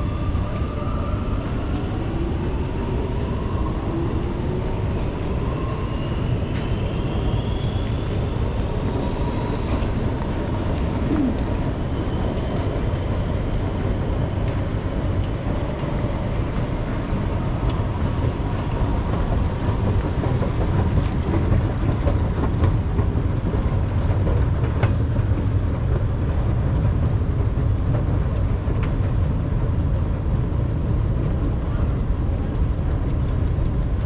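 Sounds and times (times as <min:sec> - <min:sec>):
low rumble of a station: 0:00.0 - 0:34.0.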